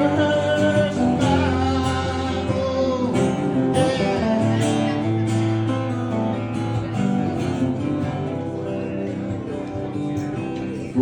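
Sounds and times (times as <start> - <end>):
acoustic guitar strumming: 0.0 - 11.0
person singing country song: 0.0 - 11.0.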